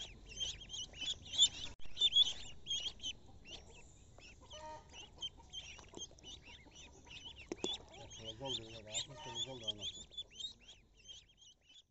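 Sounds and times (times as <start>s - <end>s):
ducklings peeping: 0.0s - 11.9s.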